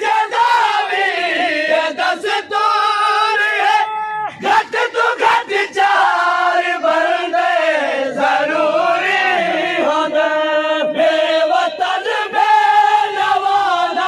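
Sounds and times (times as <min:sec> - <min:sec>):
crowd of men chanting: 0:00.0 - 0:14.0.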